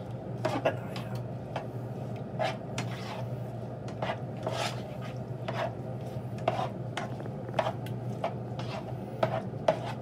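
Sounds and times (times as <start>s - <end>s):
steady low hum: 0.0s - 10.0s
spatula scraping onions in pan: 0.4s - 1.7s, 2.3s - 10.0s.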